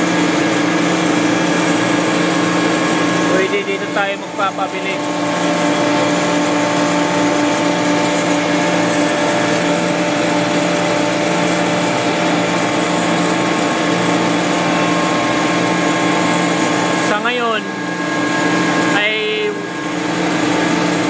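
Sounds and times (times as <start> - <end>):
compressor machinery hum: 0.0 - 21.0.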